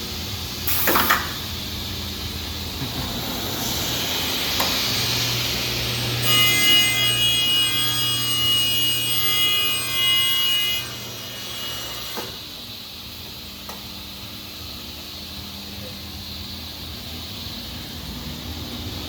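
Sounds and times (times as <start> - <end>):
saw running with quiet hum: 0.0 - 19.0.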